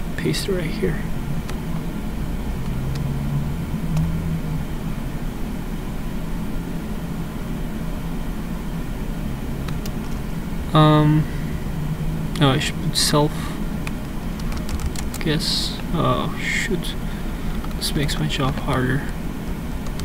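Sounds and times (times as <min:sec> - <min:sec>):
low fan hum: 0:00.0 - 0:20.0.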